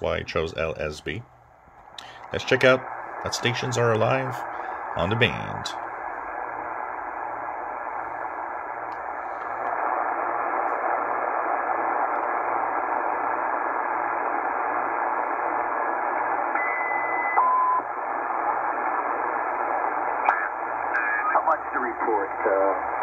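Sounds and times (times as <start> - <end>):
radio static hiss: 0.0 - 23.0
radio whistle: 2.0 - 23.0.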